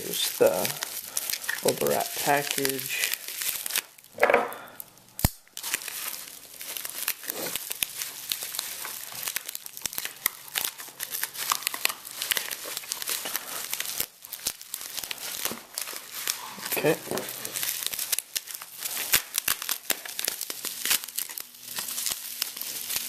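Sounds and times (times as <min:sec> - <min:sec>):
packaging crinkling and tearing: 0:00.0 - 0:23.0.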